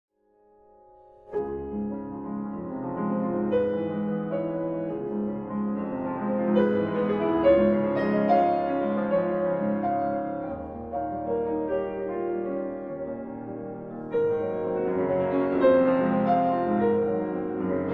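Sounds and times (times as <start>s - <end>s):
instrumental music: 0.3s - 17.9s.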